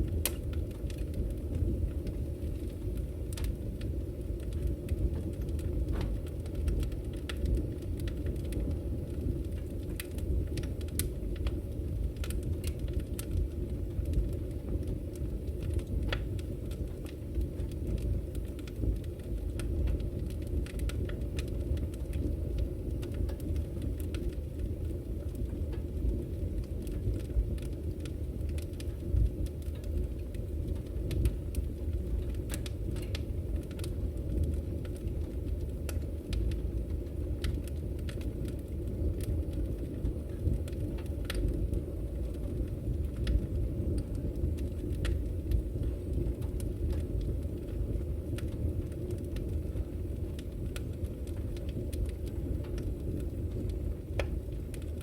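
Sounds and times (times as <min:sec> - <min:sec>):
firewood crackling and popping: 0:00.0 - 0:55.0
low rumble of fire: 0:00.0 - 0:55.0.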